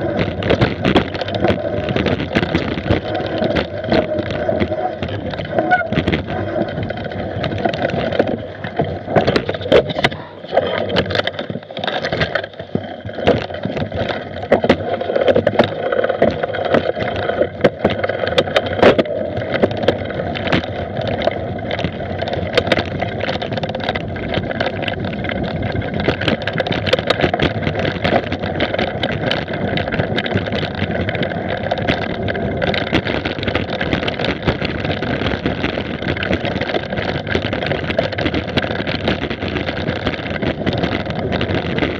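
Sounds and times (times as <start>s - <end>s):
wind rushing on microphone: 0.0s - 11.5s, 17.1s - 41.9s
bike knocking and rattling: 0.0s - 41.9s.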